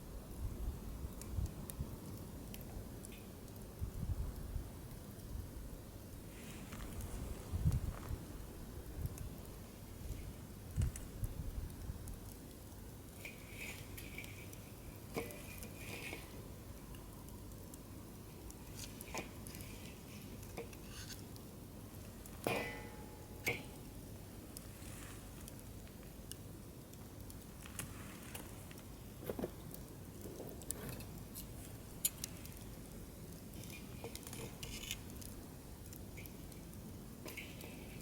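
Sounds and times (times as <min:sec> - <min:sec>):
faint fire hiss: 0:00.0 - 0:38.0
wood fire crackling and popping: 0:00.0 - 0:38.0.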